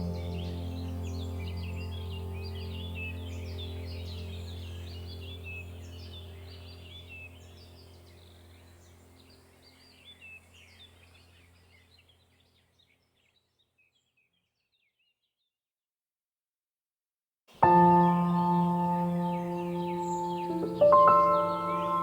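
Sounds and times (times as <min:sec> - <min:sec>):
small birds chirping: 0:00.0 - 0:15.6, 0:17.6 - 0:22.0.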